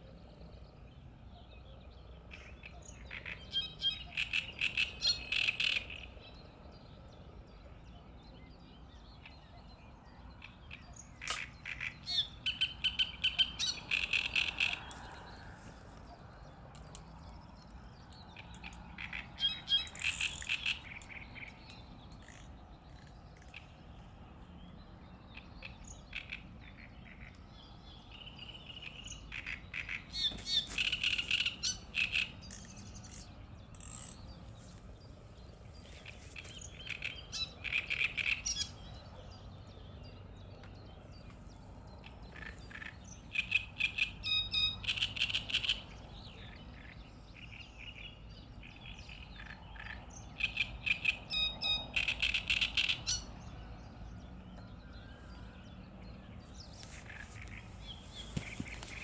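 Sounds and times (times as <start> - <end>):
faint outdoor background: 0.0 - 59.0
songbird chattering song: 0.0 - 59.0.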